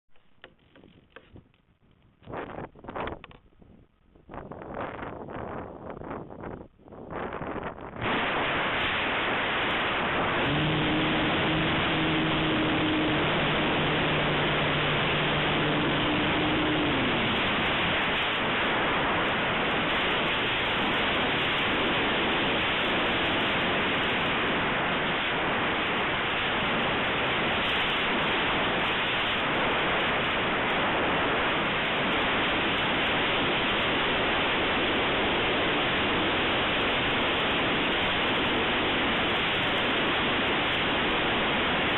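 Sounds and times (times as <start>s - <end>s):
low steady hum: 0.1s - 41.9s
wind rushing over microphone: 2.1s - 41.9s.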